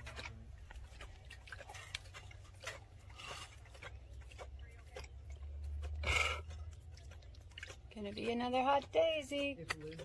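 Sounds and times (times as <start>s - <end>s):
low steady hum: 0.0s - 10.0s
tiger lapping water: 0.0s - 10.0s.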